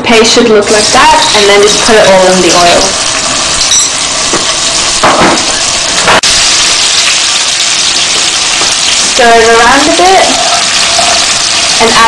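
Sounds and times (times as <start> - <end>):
paste sizzling in hot oil: 0.6 - 12.0.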